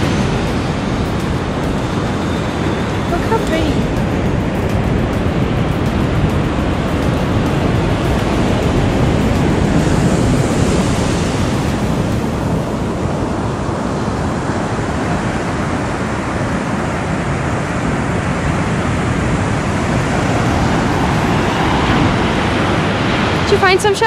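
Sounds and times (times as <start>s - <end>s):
ocean surf breaking: 0.0s - 24.0s
wind on microphone: 0.0s - 24.0s.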